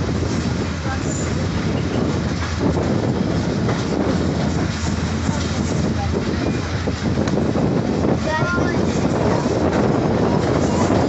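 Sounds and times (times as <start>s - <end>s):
train knocks: 0.0s - 11.0s
train wheels running on rails: 0.0s - 11.0s.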